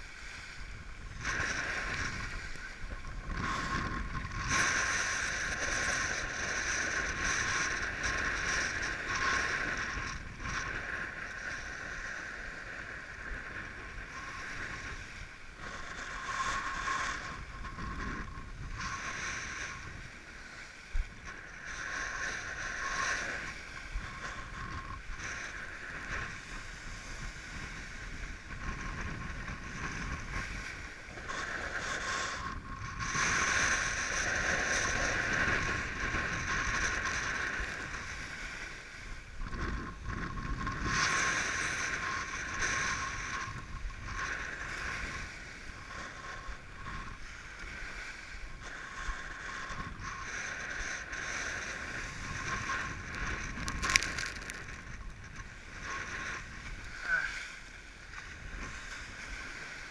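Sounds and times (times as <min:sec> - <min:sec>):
water rushing along board: 0:00.0 - 0:59.9
wind noise: 0:00.0 - 0:59.9.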